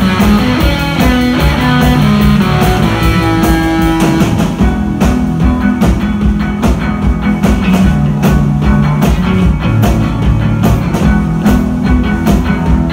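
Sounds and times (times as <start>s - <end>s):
distorted electric guitars: 0.0s - 12.9s
drum kit steady beat: 0.0s - 12.9s.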